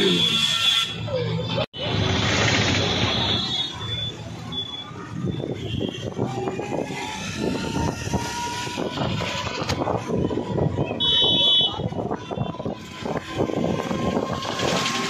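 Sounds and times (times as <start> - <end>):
rattling rickshaw engine: 0.0 - 15.0
road noise: 0.0 - 15.0.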